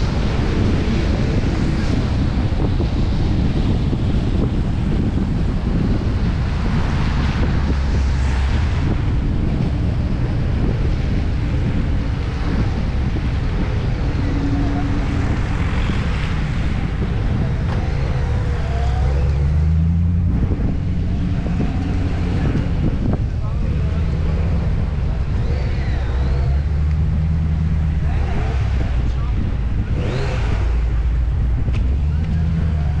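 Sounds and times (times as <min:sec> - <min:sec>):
car engine running: 0:00.0 - 0:33.0
wind on microphone: 0:00.0 - 0:33.0.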